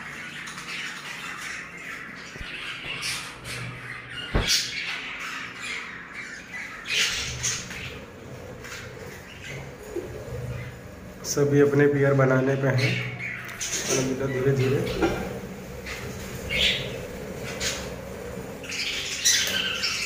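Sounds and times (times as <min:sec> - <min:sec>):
budgerigars chattering and squawking: 0:00.0 - 0:20.0.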